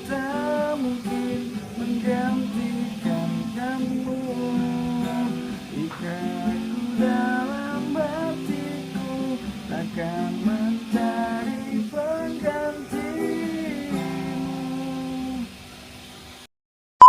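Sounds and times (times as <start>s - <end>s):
person singing: 0.0s - 15.5s
acoustic guitar strumming: 0.0s - 15.6s.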